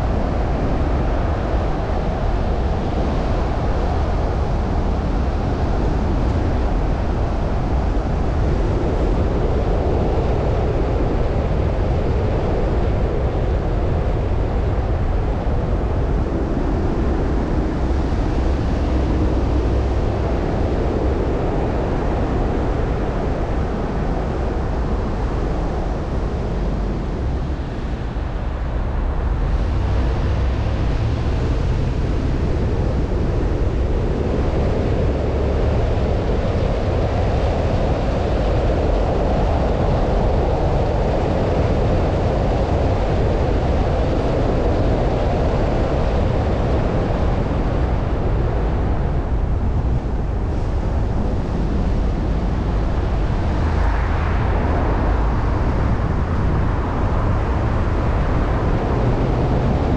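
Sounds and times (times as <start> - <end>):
wind rush: 0.0 - 59.9.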